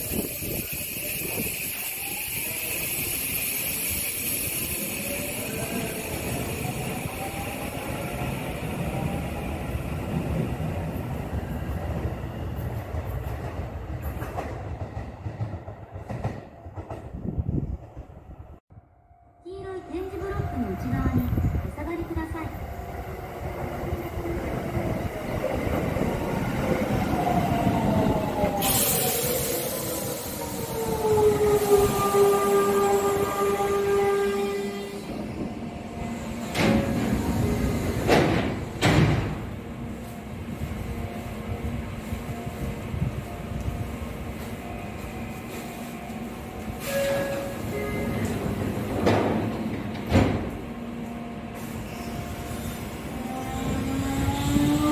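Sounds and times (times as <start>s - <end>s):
electric train rumbling on track: 0.0s - 54.9s.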